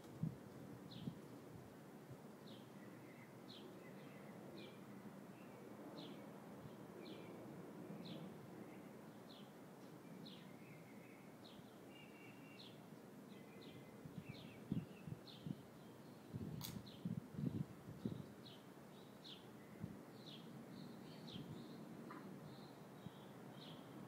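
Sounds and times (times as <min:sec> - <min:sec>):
low outdoor background: 0:00.0 - 0:24.0
small birds chirping: 0:00.9 - 0:01.4, 0:02.4 - 0:24.0.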